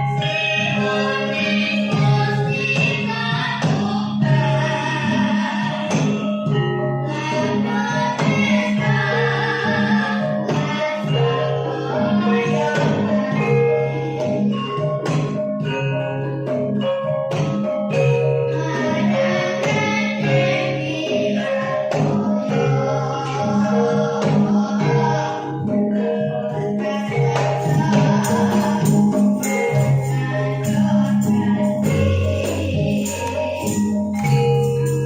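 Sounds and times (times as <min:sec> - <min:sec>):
person singing: 0:00.0 - 0:06.3, 0:07.1 - 0:14.6, 0:18.5 - 0:35.0
gamelan ensemble playing: 0:00.0 - 0:35.0.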